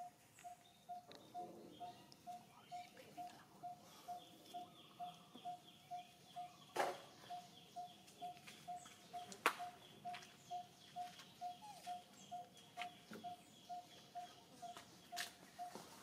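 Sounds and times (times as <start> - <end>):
faint high chirping: 0.0 - 16.0.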